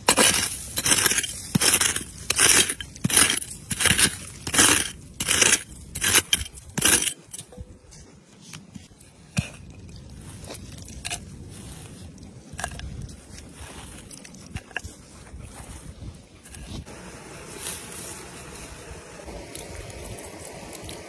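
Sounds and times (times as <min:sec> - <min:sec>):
hand cultivator scraping soil: 0:00.0 - 0:07.7, 0:08.4 - 0:21.0
soil scratching and rustling: 0:00.0 - 0:21.0.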